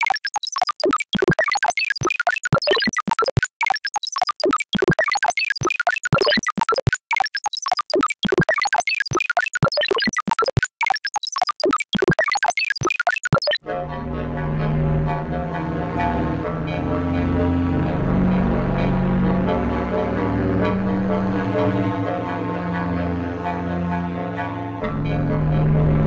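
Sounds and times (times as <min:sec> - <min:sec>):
synthesizer blips: 0:00.0 - 0:26.0.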